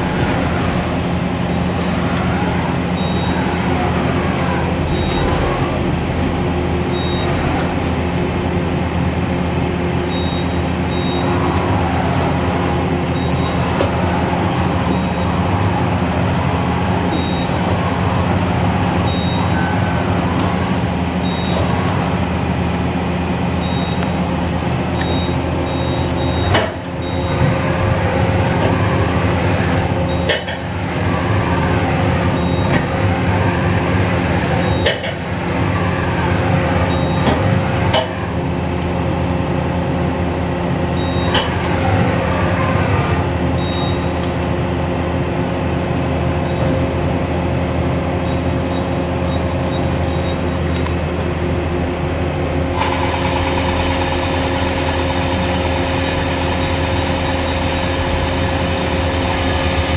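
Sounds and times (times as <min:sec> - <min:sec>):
axis drive whines: 0:00.0 - 0:59.9
machine hum: 0:00.0 - 0:59.9.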